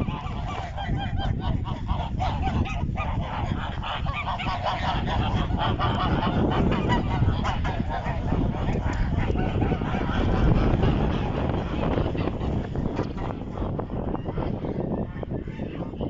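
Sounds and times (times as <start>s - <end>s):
geese honking: 0.0s - 16.0s
steady low rumble: 0.0s - 16.0s.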